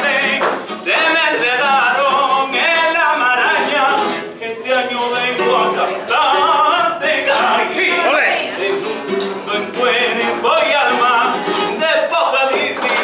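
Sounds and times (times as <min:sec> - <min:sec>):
man singing ornamented notes: 0:00.0 - 0:13.0.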